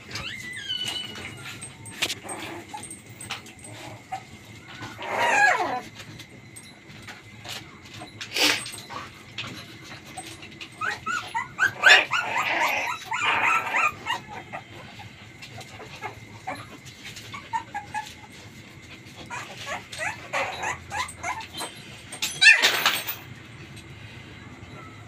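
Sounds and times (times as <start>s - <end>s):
puppies whimpering and yipping: 0.0s - 6.4s, 7.0s - 22.9s.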